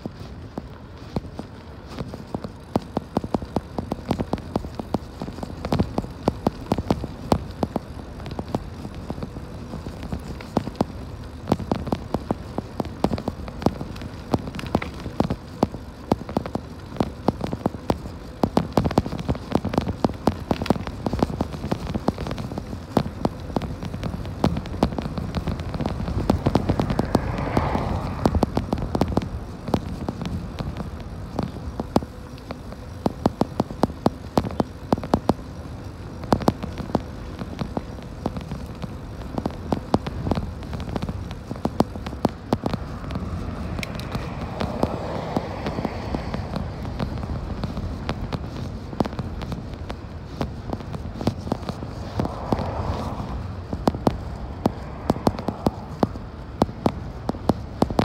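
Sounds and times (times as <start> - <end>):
bike rattling clicks: 0.0 - 58.0
tyre and wind rumble: 0.0 - 58.0.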